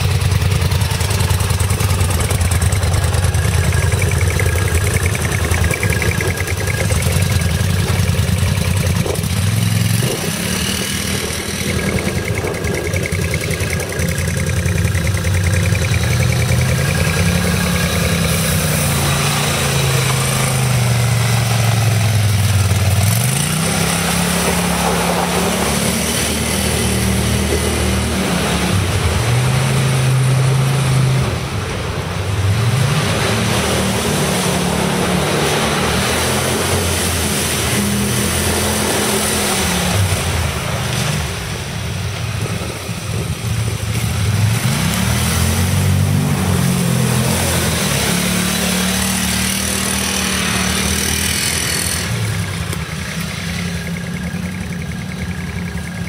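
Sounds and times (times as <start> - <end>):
atv engine revving: 0.0 - 56.0
atv engines idling: 0.0 - 56.0
quad splashing through water: 0.4 - 54.5.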